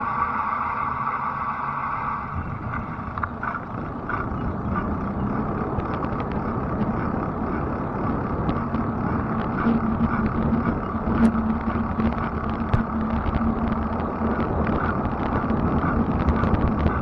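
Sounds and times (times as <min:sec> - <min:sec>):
electric motor whine: 0:00.0 - 0:17.0
low hum: 0:00.0 - 0:17.0
tyres and wind rumbling: 0:00.0 - 0:17.0.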